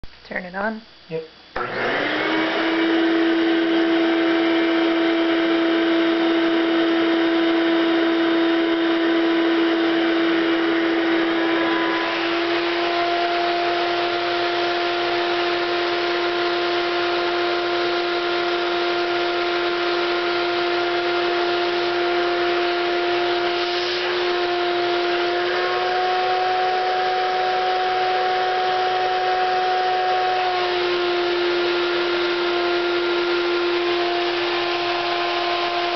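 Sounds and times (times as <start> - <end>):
vacuum cleaner motor whine: 1.6 - 35.9.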